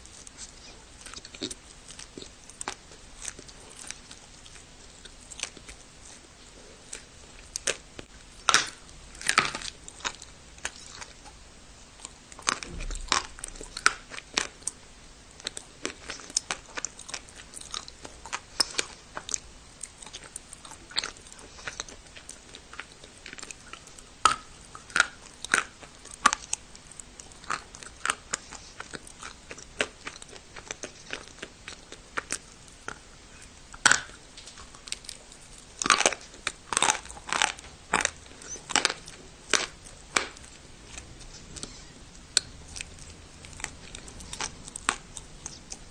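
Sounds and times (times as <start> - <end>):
crunching and chewing hard clay: 0.0 - 45.9.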